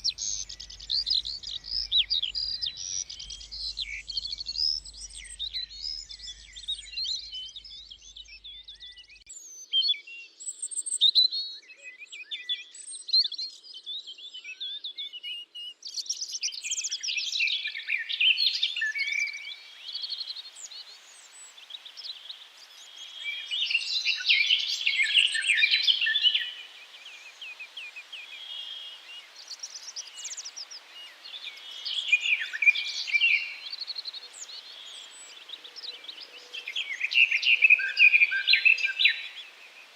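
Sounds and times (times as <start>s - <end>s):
faint steady hiss: 0.0s - 9.5s, 16.1s - 39.9s
songbirds chirping and trilling: 0.0s - 39.9s.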